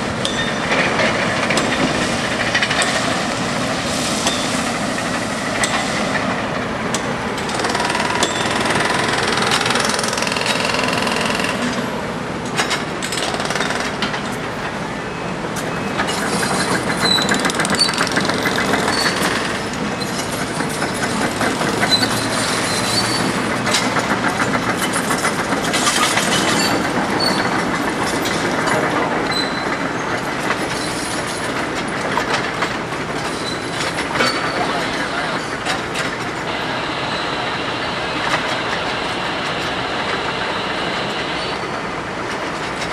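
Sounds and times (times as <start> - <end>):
work equipment engines running: 0.0 - 42.9.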